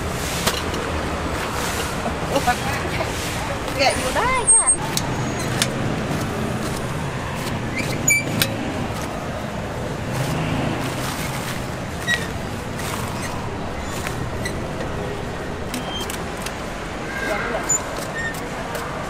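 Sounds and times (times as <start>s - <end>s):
busy outdoor market: 0.0s - 19.0s
vehicle engines running: 0.0s - 19.0s.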